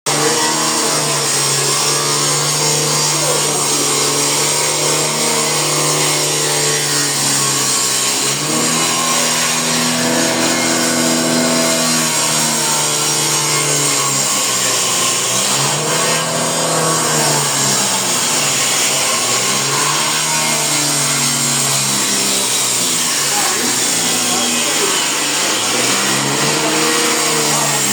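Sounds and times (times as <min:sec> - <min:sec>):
power saw cutting wood: 0:00.0 - 0:27.9.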